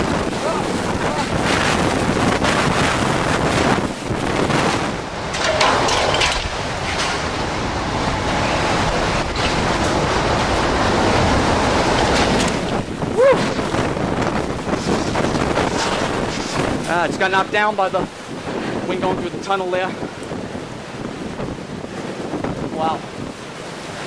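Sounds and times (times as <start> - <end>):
hurricane wind buffeting microphone: 0.0 - 24.0.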